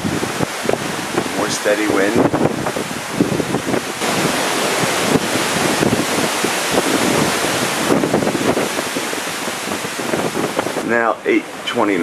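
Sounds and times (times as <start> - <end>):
wind buffeting microphone: 0.0 - 12.0
wind rushing through trees: 0.0 - 12.0.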